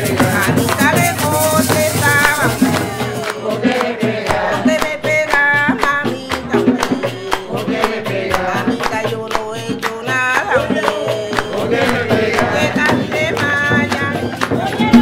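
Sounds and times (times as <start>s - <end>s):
rattling shaker: 0.0s - 15.0s
steady drum strokes: 0.0s - 15.0s
woman singing: 0.0s - 15.0s.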